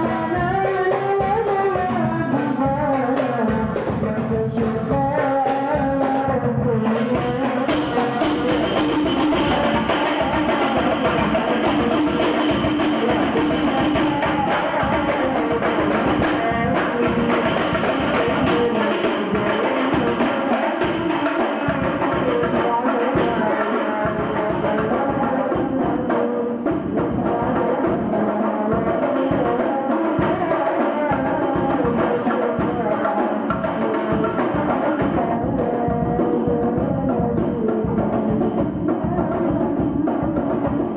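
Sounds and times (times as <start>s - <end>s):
devotional singing: 0.0s - 40.9s
frame drums playing: 0.0s - 40.9s.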